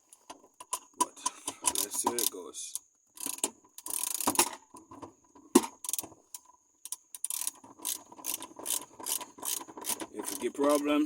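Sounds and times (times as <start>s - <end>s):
gear shifter clicking and clacking: 0.1s - 11.0s.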